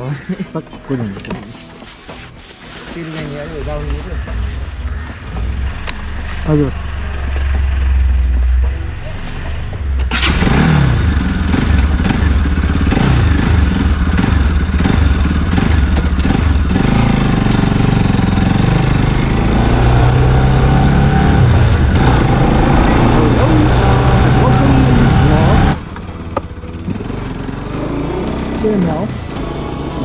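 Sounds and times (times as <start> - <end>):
motorcycle engine accelerating: 3.6 - 30.0.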